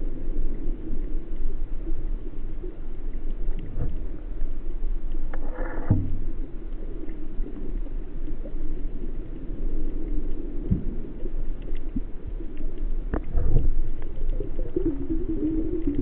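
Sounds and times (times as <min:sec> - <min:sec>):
muffled sea water: 0:00.0 - 0:16.0.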